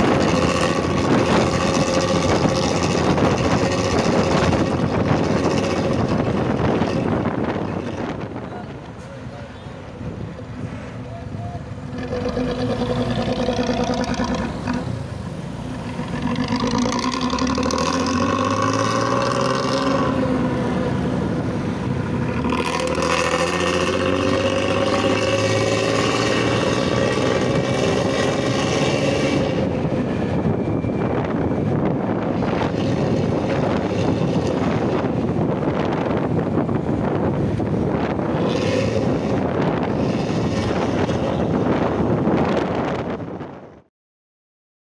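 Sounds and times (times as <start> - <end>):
bus engine accelerating: 0.0 - 43.9.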